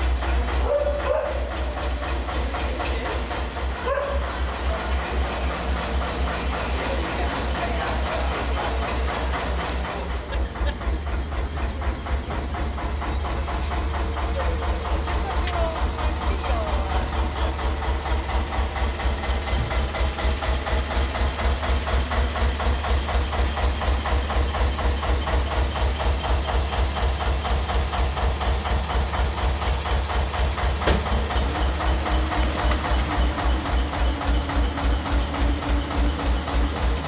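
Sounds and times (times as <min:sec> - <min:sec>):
diesel engine chugging: 0:00.0 - 0:37.0.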